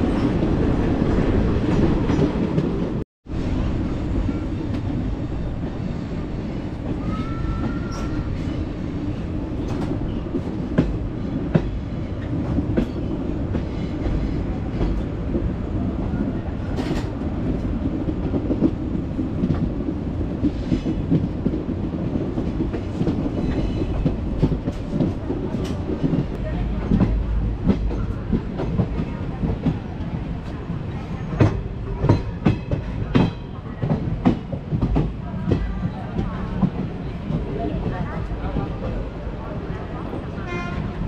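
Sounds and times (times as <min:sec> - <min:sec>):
train rumbling on track: 0:00.0 - 0:41.0.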